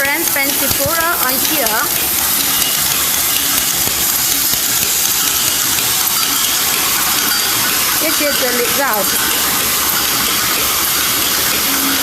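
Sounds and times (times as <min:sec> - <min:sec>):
machine hissing and humming: 0:00.0 - 0:12.0.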